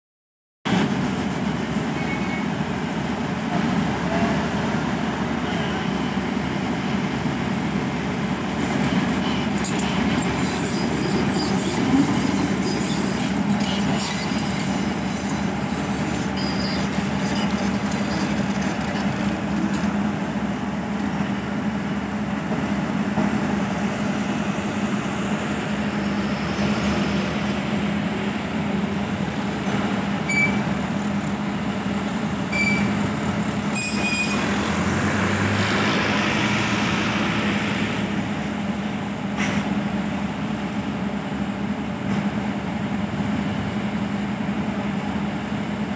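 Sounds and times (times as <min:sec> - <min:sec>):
heavy machinery diesel engines droning: 0:00.7 - 0:45.9.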